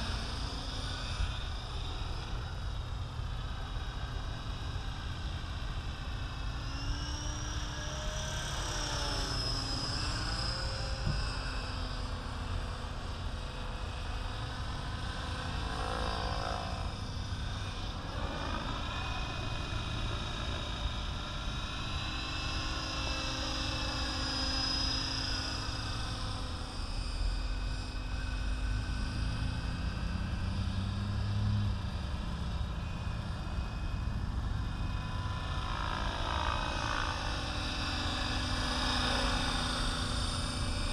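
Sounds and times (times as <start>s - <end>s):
rc helicopter motor whine: 0.0s - 40.9s.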